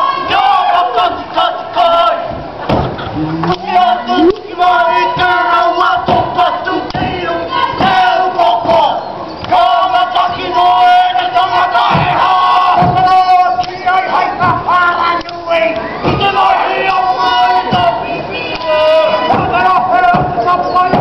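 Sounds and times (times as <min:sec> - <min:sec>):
group of voices chanting and shouting: 0:00.0 - 0:21.0.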